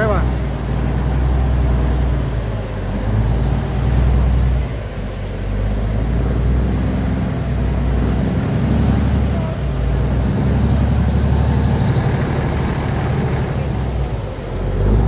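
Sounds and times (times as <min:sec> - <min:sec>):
boat engine droning: 0:00.0 - 0:15.0
water and wind rushing: 0:00.0 - 0:15.0.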